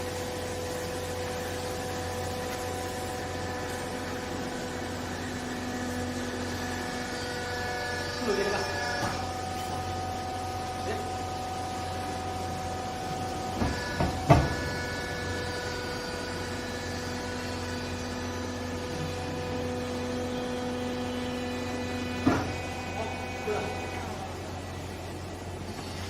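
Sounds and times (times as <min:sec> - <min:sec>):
baler press machine hum: 0:00.0 - 0:26.0.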